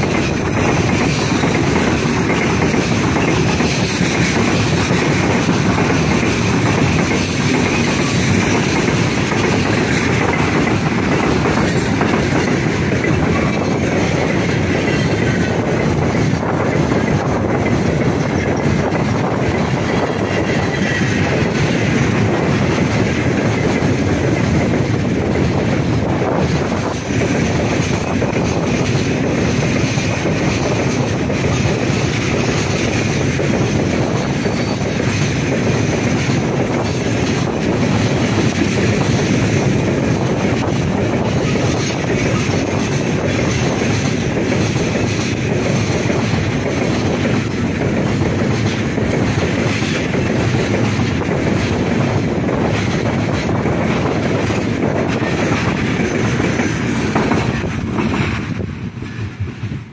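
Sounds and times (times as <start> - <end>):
freight train rumbling past: 0.0 - 59.9
wheels clattering on rails: 0.0 - 59.9.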